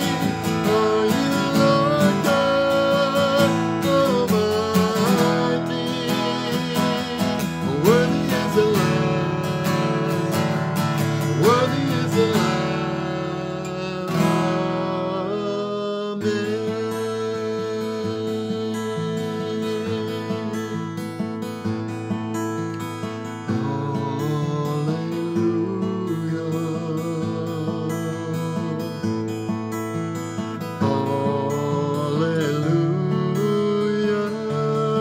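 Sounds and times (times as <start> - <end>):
man singing long held notes: 0.0 - 20.8, 23.4 - 29.2, 30.7 - 35.0
acoustic guitar strummed: 0.0 - 35.0.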